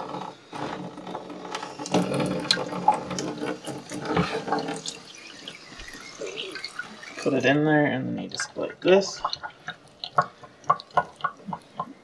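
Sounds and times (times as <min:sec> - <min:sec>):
faucet running into bowl: 0:00.0 - 0:12.0.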